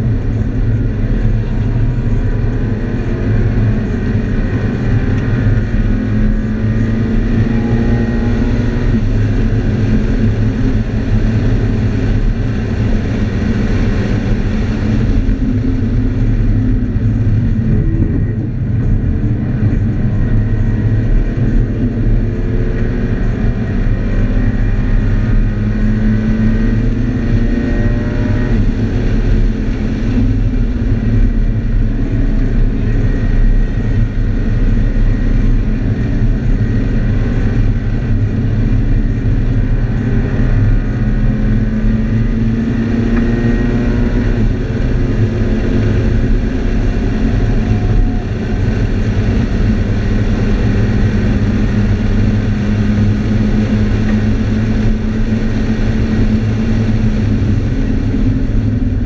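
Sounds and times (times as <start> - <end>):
car engine revving: 0.0 - 59.0
low road rumble: 0.0 - 59.0.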